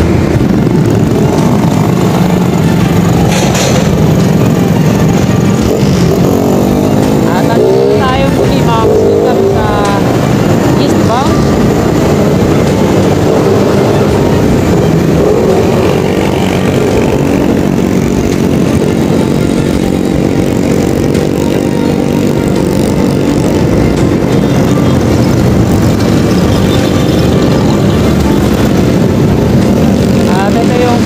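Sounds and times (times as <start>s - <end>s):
road and traffic noise: 0.0s - 31.0s
vehicle engine running: 0.0s - 31.0s.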